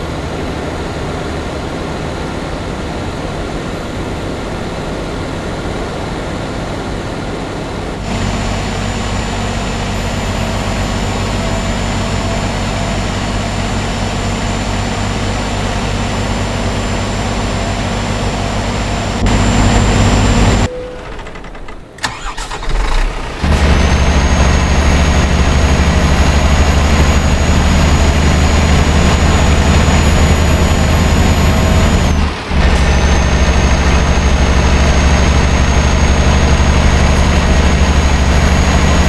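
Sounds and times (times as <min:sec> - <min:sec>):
diesel truck engine droning: 0:00.0 - 0:39.0
road noise: 0:00.0 - 0:39.0.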